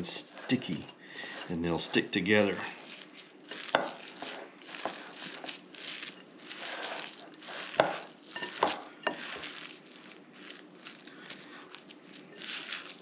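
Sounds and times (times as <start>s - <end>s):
spatulas stirring sticky batter: 0.0s - 13.0s.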